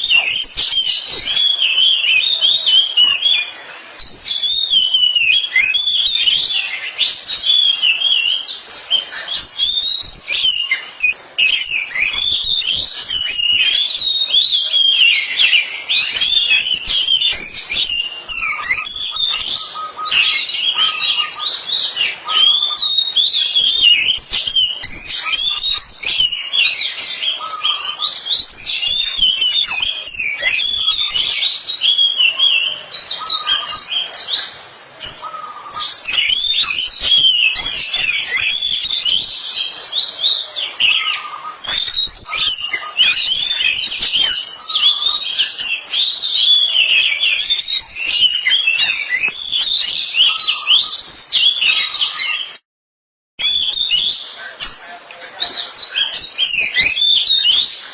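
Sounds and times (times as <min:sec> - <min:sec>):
birds singing whistles and chirps: 0:00.0 - 0:52.6, 0:53.4 - 0:57.9.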